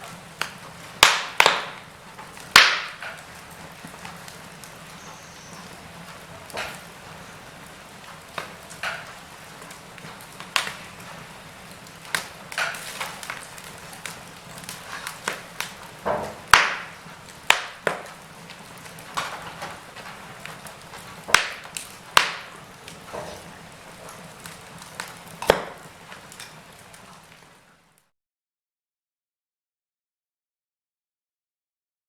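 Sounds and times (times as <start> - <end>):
wood fire crackling: 0.0 - 28.1.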